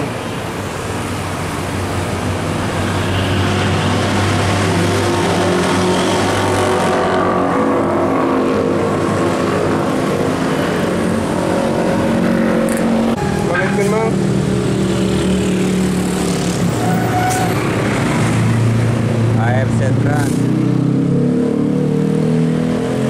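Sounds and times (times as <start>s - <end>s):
motorcycles passing: 0.0s - 23.0s
passing car engines: 0.0s - 23.0s
truck passing: 0.0s - 23.0s.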